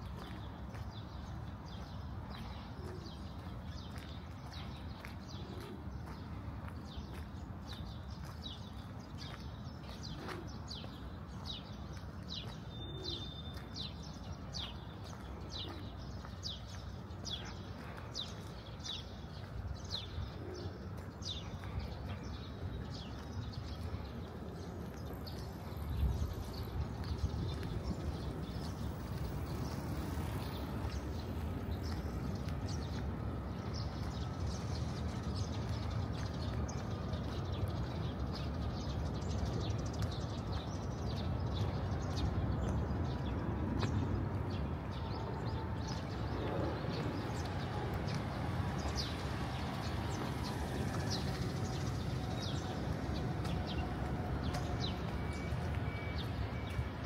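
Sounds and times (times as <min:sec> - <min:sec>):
low street rumble: 0:00.0 - 0:57.0.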